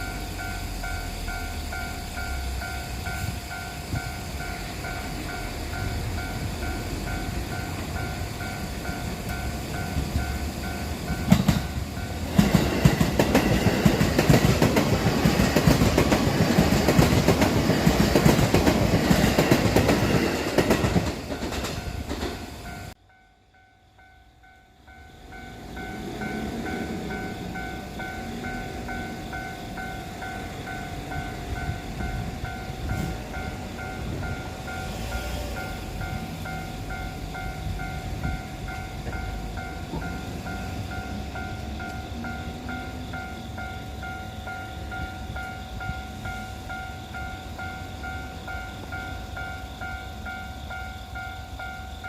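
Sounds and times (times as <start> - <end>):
train wagons clattering over rails: 0.0 - 23.2, 24.1 - 52.0
level crossing warning bell: 0.0 - 52.0.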